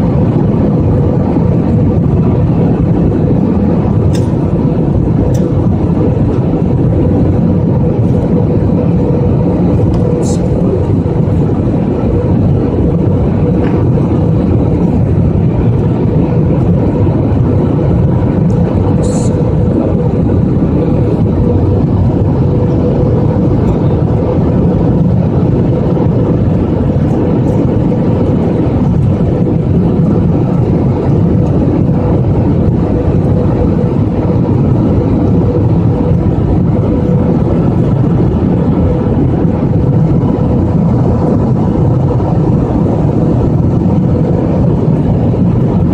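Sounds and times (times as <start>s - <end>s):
constant hum: 0.0s - 45.9s
jet engines and airflow rushing: 0.0s - 45.9s.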